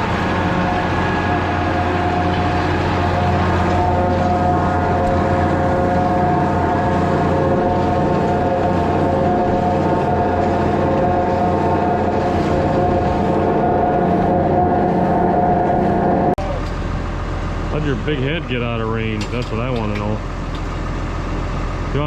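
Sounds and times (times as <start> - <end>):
machinery engine hum: 0.0 - 22.0
steady machine whine: 0.0 - 22.0.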